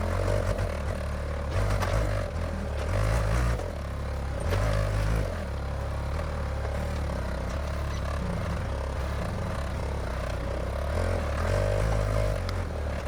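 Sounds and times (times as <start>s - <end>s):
backhoe engine under load: 0.0s - 13.0s.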